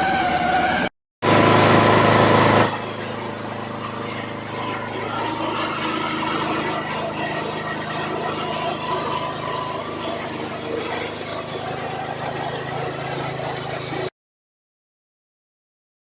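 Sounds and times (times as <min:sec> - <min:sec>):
machine humming and rattling: 0:00.0 - 0:14.1.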